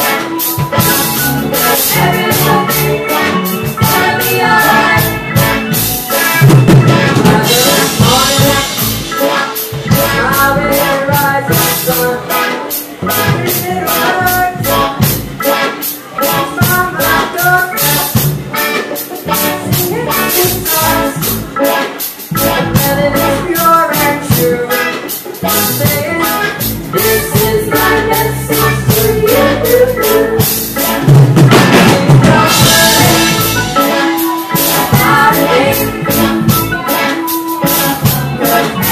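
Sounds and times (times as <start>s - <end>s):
live reggae band: 0.0s - 38.9s.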